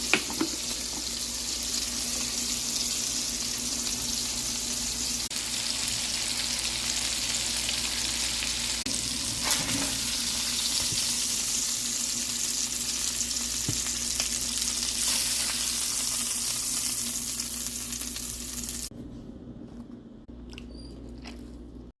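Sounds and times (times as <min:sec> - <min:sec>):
burgers sizzling: 0:00.0 - 0:18.9.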